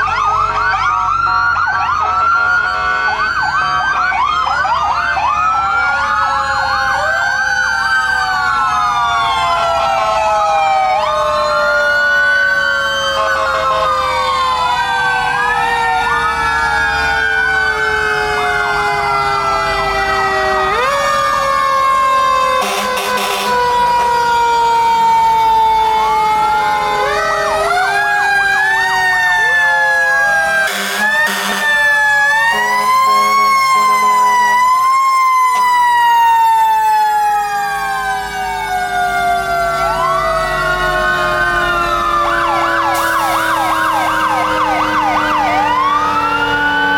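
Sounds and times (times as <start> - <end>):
fire truck sirens wailing: 0.0 - 46.9.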